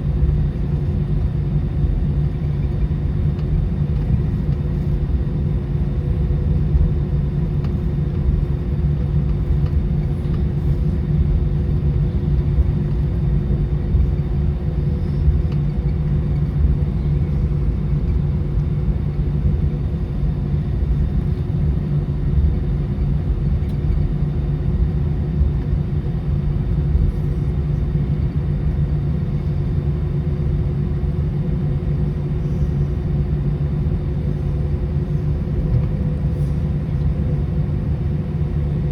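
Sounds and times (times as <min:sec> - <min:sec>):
aircraft engine rumble: 0:00.0 - 0:38.9
constant low hum: 0:00.0 - 0:38.9.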